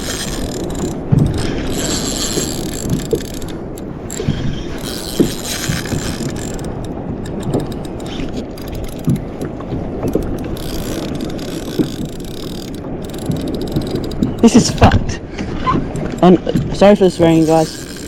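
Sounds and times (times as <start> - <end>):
fishing reel ratcheting whir: 0.0 - 14.8, 17.1 - 18.0.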